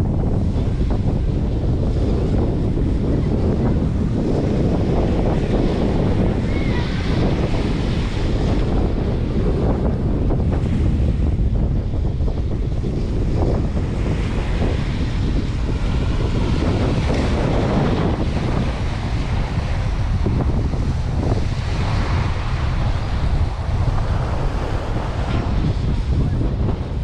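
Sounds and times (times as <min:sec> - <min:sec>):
surf breaking on beach: 0:00.0 - 0:27.0
wind buffeting microphone: 0:00.0 - 0:27.0.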